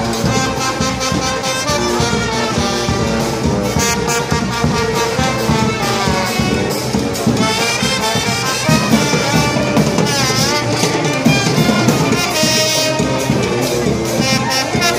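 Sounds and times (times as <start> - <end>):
brass band playing: 0.0 - 14.9.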